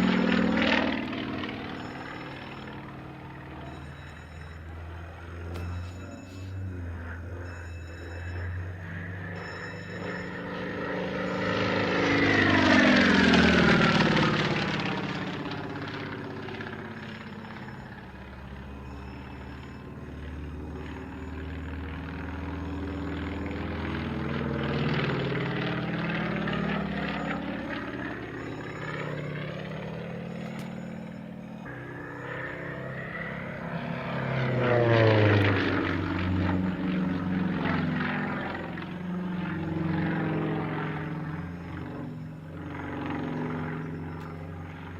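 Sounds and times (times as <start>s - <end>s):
propeller aircraft flying past: 0.0s - 44.9s.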